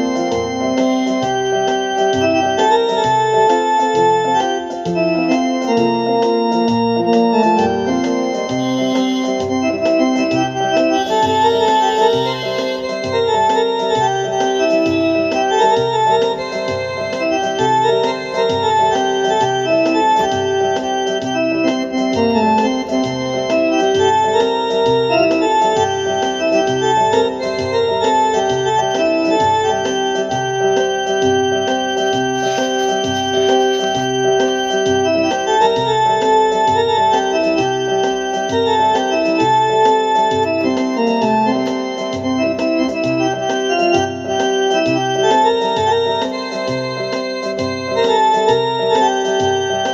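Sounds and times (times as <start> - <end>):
keyboard music with steady beat: 0.0 - 49.9.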